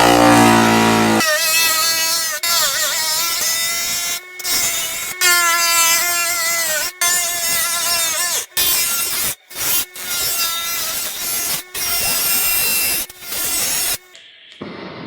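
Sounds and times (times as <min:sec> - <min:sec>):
power tool whining: 0:00.0 - 0:14.2.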